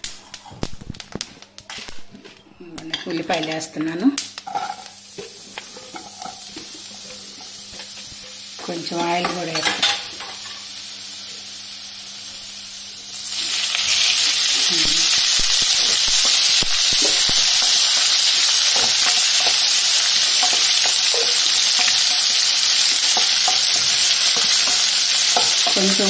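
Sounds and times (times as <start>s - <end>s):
onions sizzling in oil: 2.7s - 26.0s.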